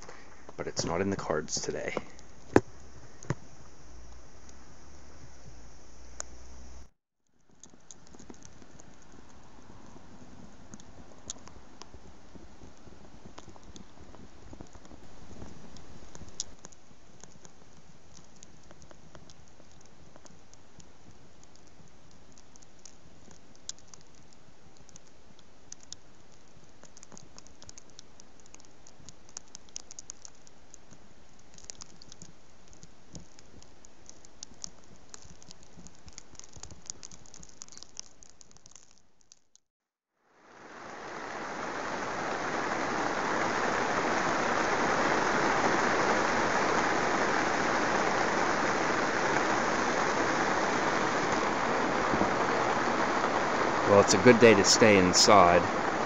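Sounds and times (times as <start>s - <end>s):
light ticks and patter: 0.0s - 4.6s, 7.2s - 39.6s, 41.1s - 56.0s
steady rain: 0.0s - 39.3s, 40.3s - 56.0s.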